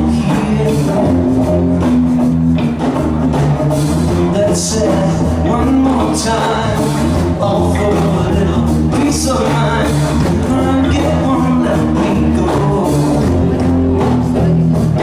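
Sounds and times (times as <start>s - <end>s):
loud song with singing: 0.0s - 15.0s.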